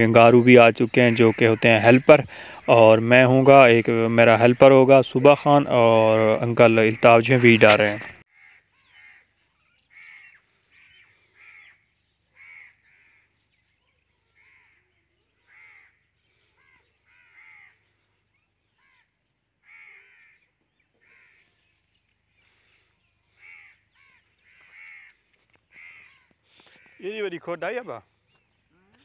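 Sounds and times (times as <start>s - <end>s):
faint bird calls: 0.0s - 29.0s.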